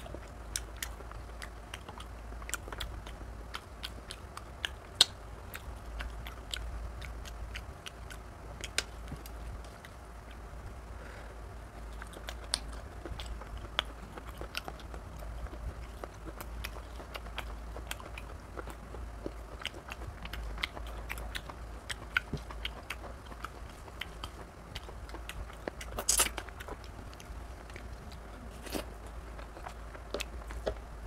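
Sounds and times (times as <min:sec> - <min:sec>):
wet chewing and lip smacks: 0:00.0 - 0:10.4, 0:11.8 - 0:31.0.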